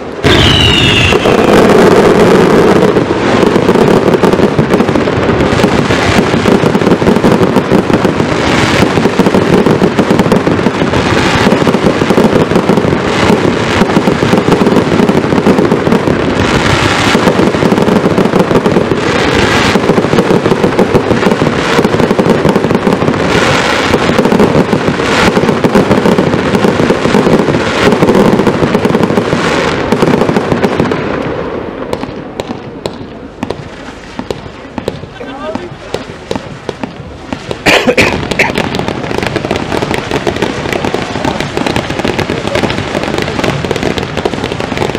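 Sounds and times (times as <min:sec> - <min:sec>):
fireworks banging: 0:00.0 - 0:44.9.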